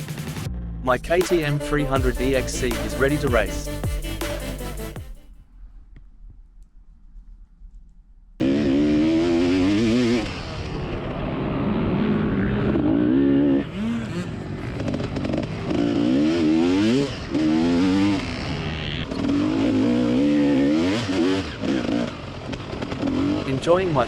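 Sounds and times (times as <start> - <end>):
motorcycle engine revving: 0.0 - 5.3, 8.4 - 24.0.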